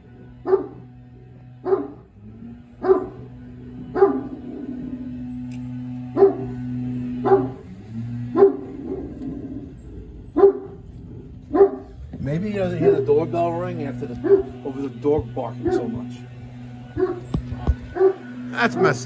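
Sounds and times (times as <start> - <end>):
big dog barking: 0.2 - 5.4, 6.0 - 19.0.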